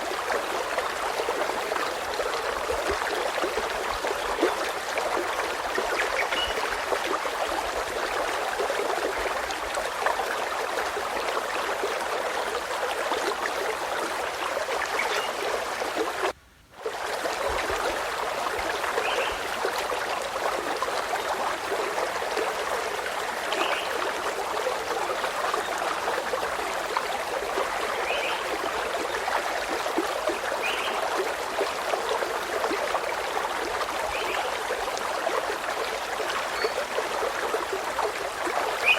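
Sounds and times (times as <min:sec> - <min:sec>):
stream burbling: 0:00.0 - 0:38.9.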